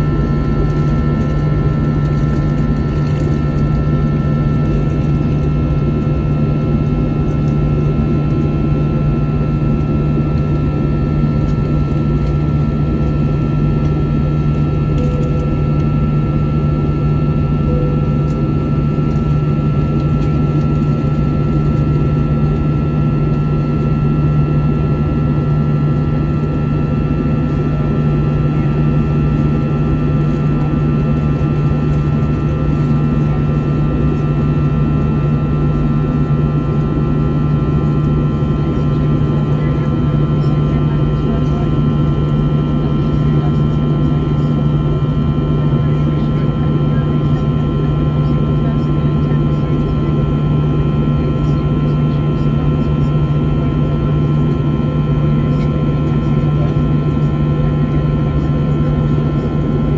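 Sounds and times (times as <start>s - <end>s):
airplane cabin drone: 0.0s - 59.9s
faint steady whines: 0.0s - 59.9s.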